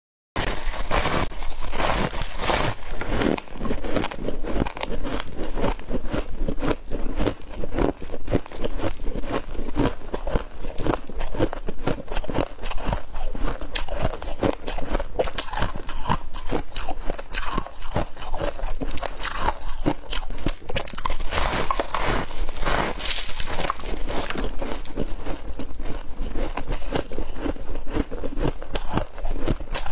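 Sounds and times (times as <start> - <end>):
frost being chewed: 0.4 - 29.9.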